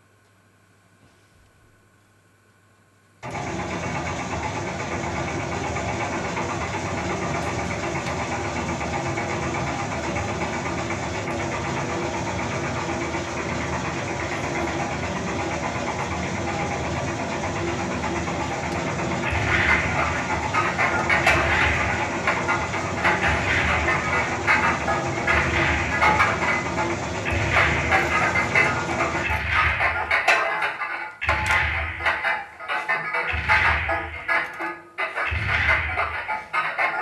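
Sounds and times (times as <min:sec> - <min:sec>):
machine-like droning noise: 0:01.8 - 0:37.0.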